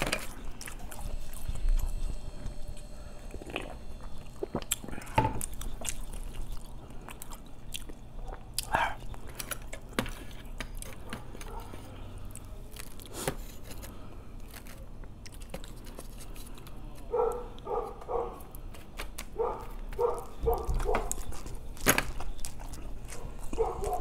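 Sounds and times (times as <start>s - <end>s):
chewing: 0.0s - 24.0s.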